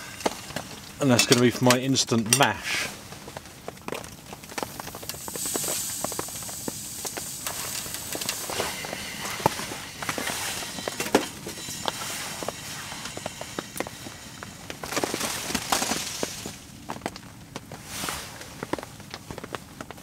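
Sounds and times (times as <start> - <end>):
firewood crackling and popping: 0.0 - 20.0
steady hiss: 0.0 - 20.0.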